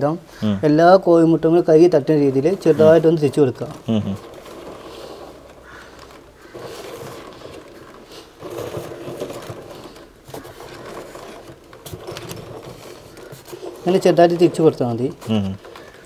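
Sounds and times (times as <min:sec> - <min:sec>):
eggs scraping on plastic mesh: 0:01.7 - 0:16.0.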